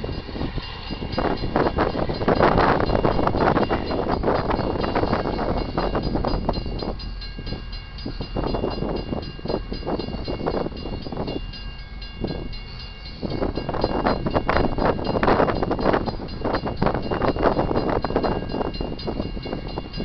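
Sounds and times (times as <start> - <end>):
freight train wheels clacking: 0.0 - 20.0
train rumble: 0.0 - 20.0
wind buffeting microphone: 0.0 - 20.0.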